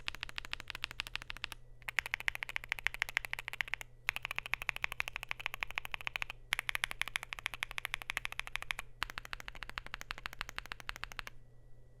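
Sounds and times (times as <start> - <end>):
fast typing on mechanical keyboard: 0.0 - 11.4.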